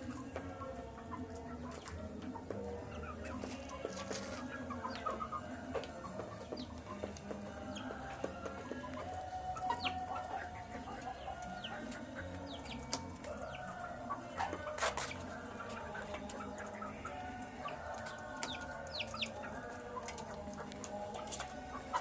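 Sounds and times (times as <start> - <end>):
young chickens clucking and peeping: 0.0 - 22.0.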